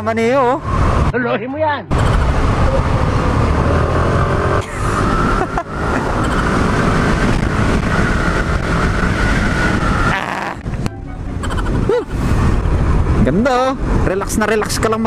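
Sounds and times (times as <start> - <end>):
wind noise: 0.0 - 1.2, 1.9 - 15.0
road noise: 0.0 - 15.0.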